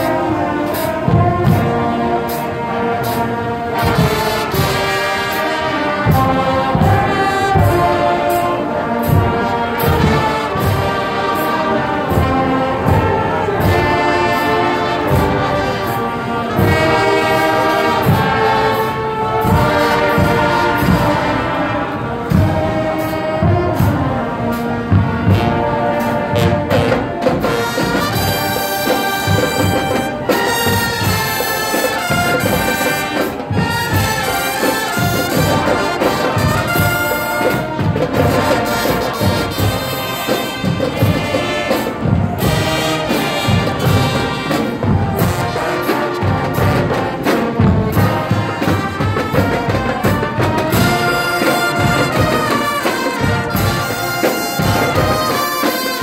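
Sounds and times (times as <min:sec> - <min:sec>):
brass section playing: 0:00.0 - 0:56.0
steady drum beat: 0:00.0 - 0:56.0.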